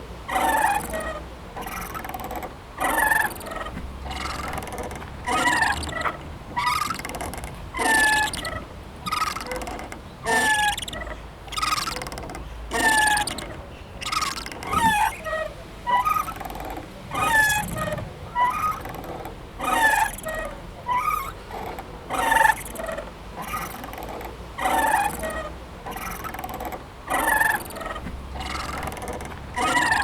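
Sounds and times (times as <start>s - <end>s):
playground swing squeaking: 0.0s - 30.0s.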